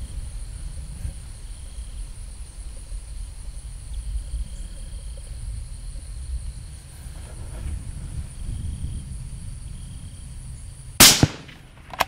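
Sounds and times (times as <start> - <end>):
low microphone rumble: 0.0 - 11.9
insect chorus buzzing: 0.0 - 12.0.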